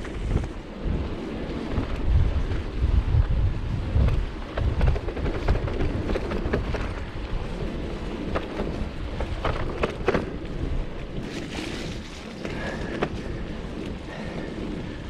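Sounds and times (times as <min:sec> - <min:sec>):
bicycle riding noise: 0:00.0 - 0:15.0
bike knocking and rattling: 0:00.0 - 0:15.0
wind buffeting microphone: 0:00.0 - 0:15.0.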